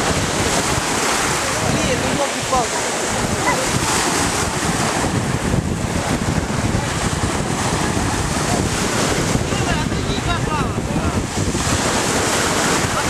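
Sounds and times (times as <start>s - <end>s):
small sea waves: 0.0s - 13.0s
wind buffeting microphone: 0.0s - 13.0s.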